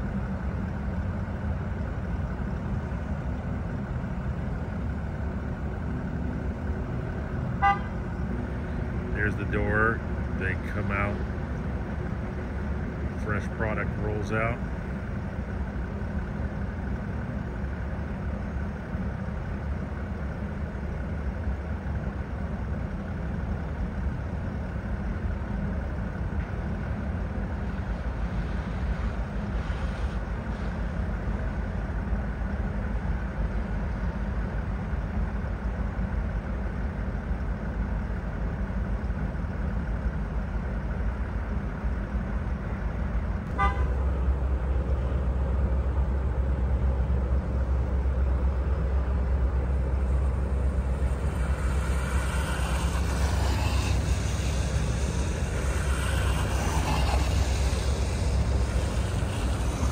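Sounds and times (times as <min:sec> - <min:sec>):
faint steady hum: 0:00.0 - 0:59.9
vehicle engines idling rumble: 0:00.0 - 0:59.9.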